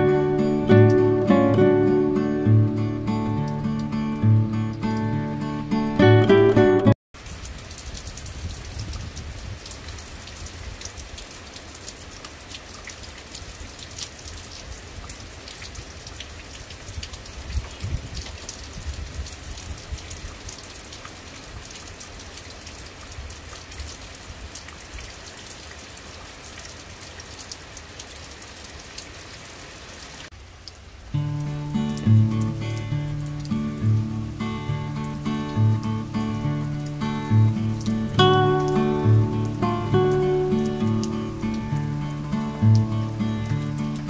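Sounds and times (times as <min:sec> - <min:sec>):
rain drops tapping on plants: 0:00.0 - 0:44.0.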